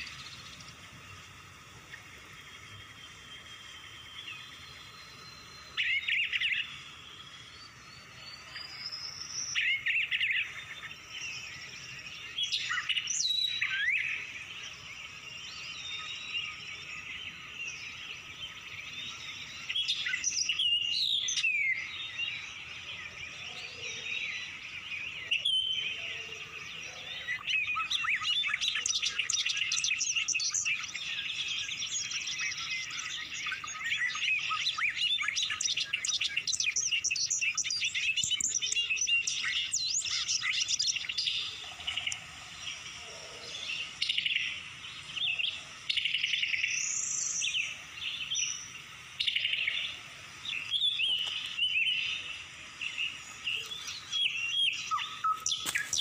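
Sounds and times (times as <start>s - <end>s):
birds chirping and chattering: 0.0s - 56.0s.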